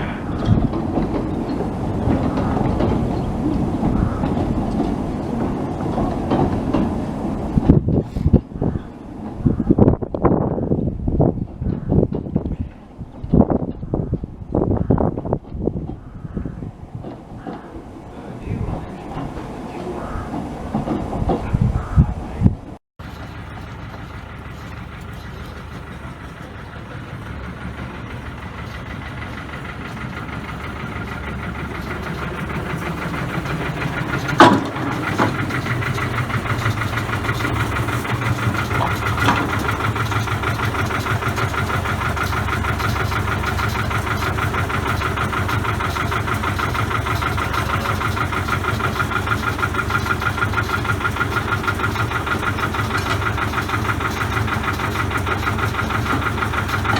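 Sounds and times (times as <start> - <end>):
diesel locomotive engine running: 0.0 - 56.9.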